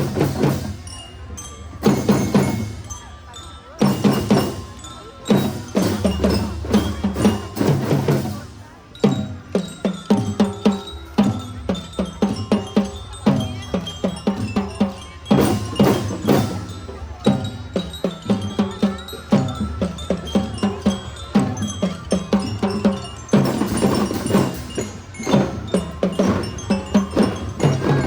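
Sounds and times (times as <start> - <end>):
drum strokes: 0.0 - 28.0
ringing bell-like melody: 0.0 - 28.0.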